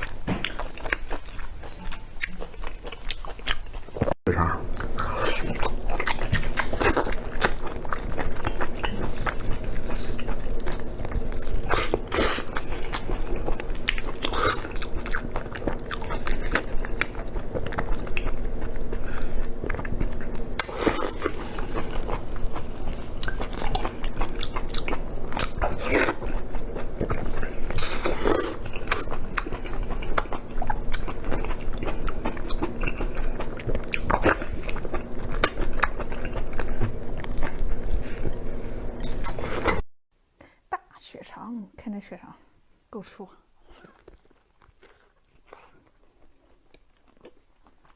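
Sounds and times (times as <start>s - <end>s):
person chewing: 0.0s - 39.8s, 43.6s - 47.9s.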